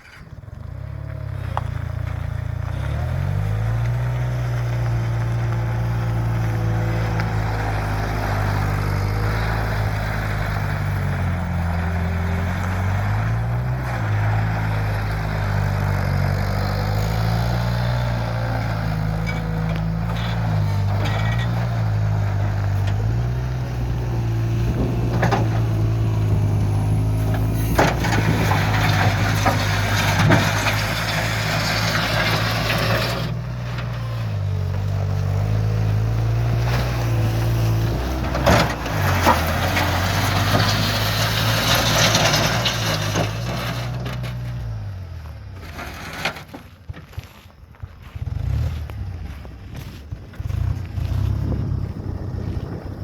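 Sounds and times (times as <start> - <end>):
skid steer engine running: 0.0 - 53.0.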